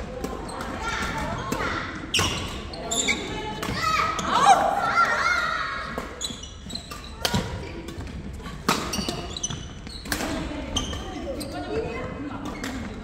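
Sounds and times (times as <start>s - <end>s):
rackets hitting shuttlecock: 0.0s - 13.0s.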